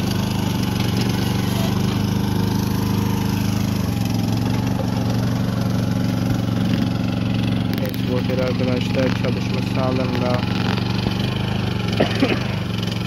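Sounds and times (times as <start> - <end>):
mini excavator engine running: 0.0 - 13.0.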